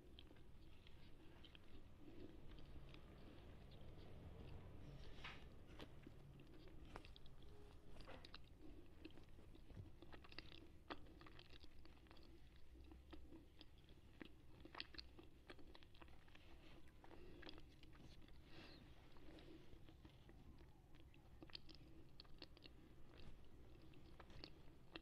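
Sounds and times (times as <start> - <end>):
chewing crunches and clicks: 0.0 - 25.0.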